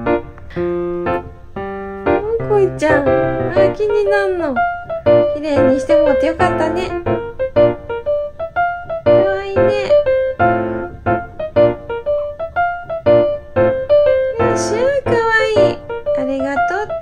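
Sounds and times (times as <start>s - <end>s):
piano playing light melody: 0.0s - 17.0s.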